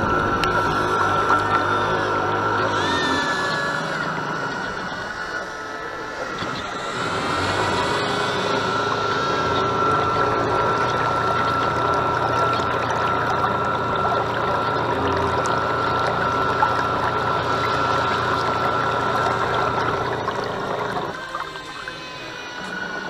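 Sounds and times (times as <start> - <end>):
model boat motor whine: 0.0 - 23.0
water rushing and splashing: 0.0 - 23.0.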